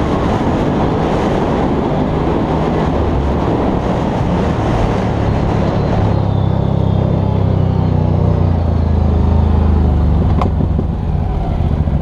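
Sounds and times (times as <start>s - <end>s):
engine running under throttle: 0.0s - 12.0s.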